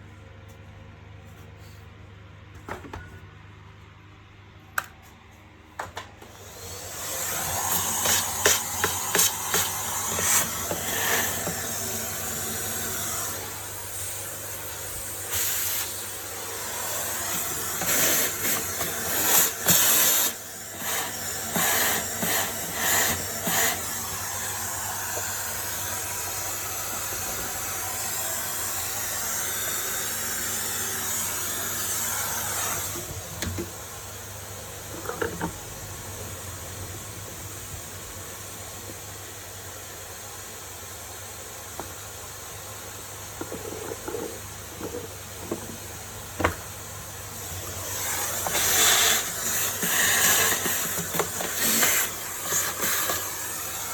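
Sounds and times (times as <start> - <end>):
vacuum cleaner running: 5.8 - 53.9.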